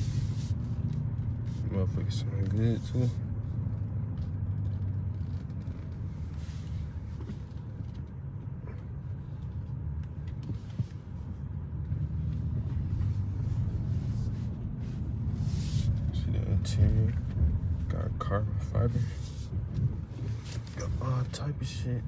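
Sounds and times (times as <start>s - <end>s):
car engine rumble from inside: 0.0s - 22.0s.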